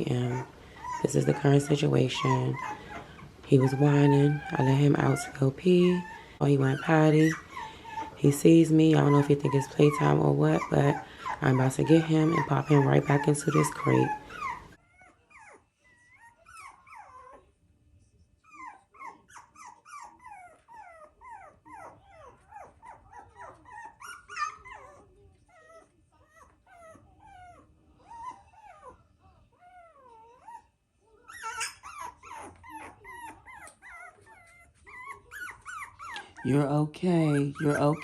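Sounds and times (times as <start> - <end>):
puppy whining and whimpering: 0.0 - 17.6, 18.4 - 38.0.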